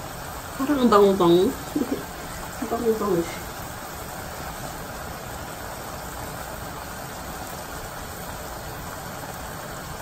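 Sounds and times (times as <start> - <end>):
chicken simmering in pan: 0.0 - 10.0.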